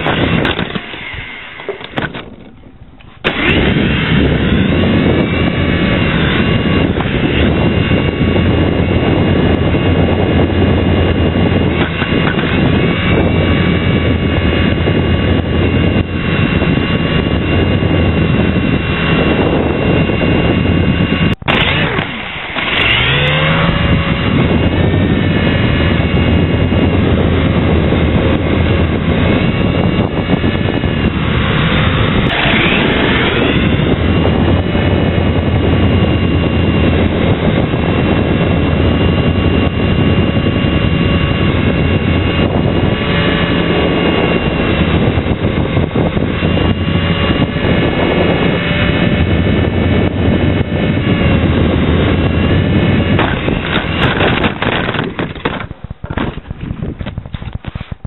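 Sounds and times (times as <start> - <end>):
small electric motors whirring: 0.0 - 56.4.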